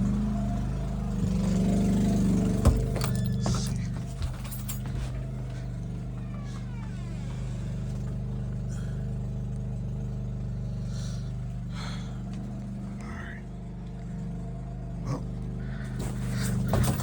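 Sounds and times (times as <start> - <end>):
engine knocks: 0.0 - 17.0
generator engine running: 0.0 - 17.0.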